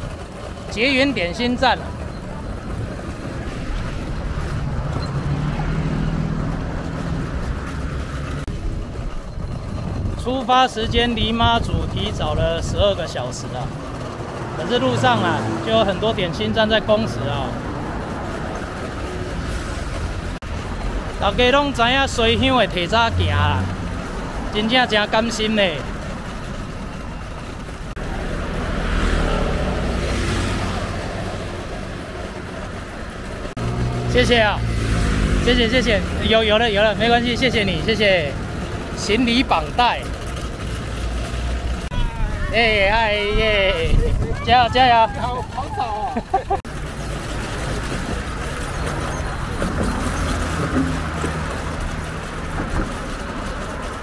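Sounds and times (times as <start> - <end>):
low engine hum: 0.0 - 54.0
street din: 0.0 - 54.0
vehicle passing close by: 0.8 - 8.8, 11.5 - 54.0.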